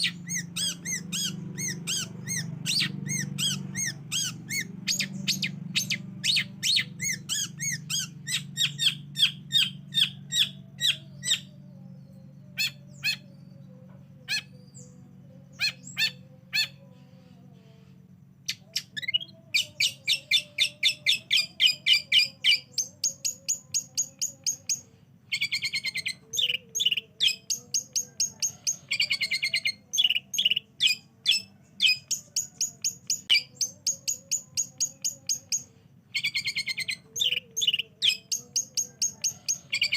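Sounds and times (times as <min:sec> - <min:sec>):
bird chattering song: 0:00.0 - 0:39.9
faint low hum: 0:00.0 - 0:39.9.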